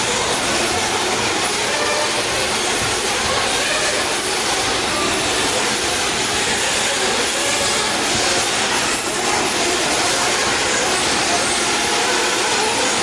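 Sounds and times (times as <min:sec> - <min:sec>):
rc car engines high-pitched din: 0:00.0 - 0:13.0.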